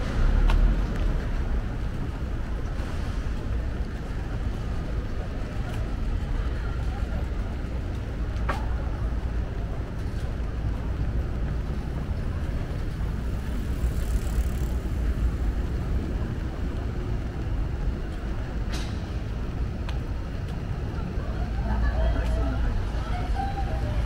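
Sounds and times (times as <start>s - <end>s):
low street rumble: 0.0s - 24.0s.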